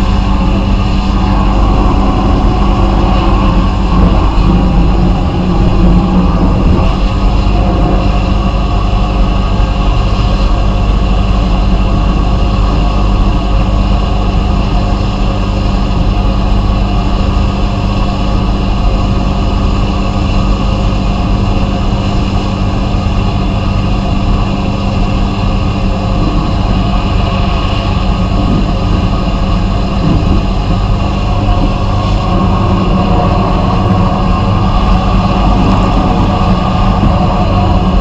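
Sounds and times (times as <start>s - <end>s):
abrasive blasting hiss: 0.0s - 38.0s
low machine hum: 0.0s - 38.0s.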